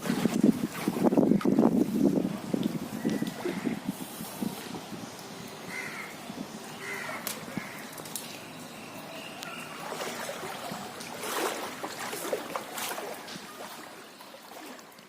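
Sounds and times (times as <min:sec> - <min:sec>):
water sloshing and splashing: 0:00.0 - 0:06.2, 0:06.8 - 0:15.0.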